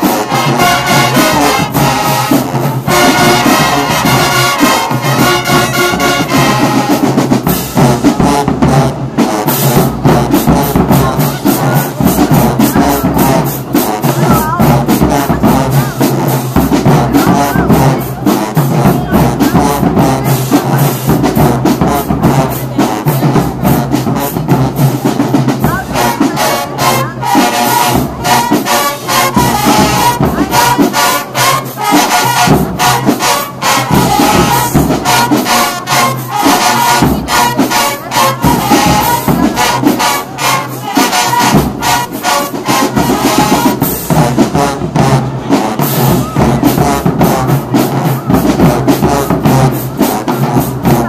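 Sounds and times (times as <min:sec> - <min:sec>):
saxophones and sousaphones: 0:00.0 - 0:51.0.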